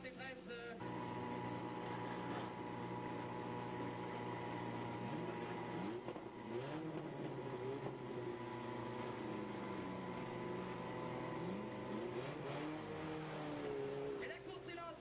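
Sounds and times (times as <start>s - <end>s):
car engines revving: 0.8s - 14.5s.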